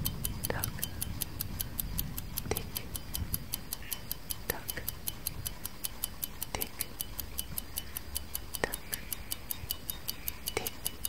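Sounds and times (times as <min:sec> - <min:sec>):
clock ticking: 0:00.0 - 0:11.0
deeper clock tock: 0:00.0 - 0:11.0.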